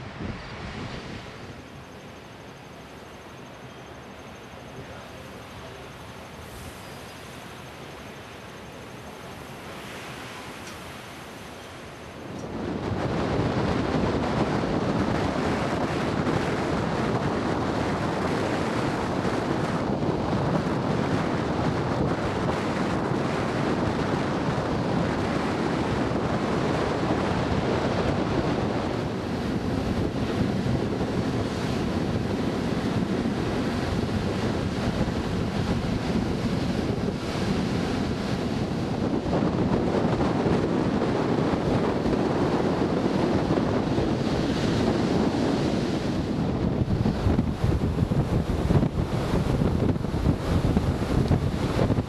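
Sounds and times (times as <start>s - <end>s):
wind buffeting microphone: 0.0s - 2.2s, 4.8s - 52.0s
ocean surf breaking: 3.9s - 52.0s.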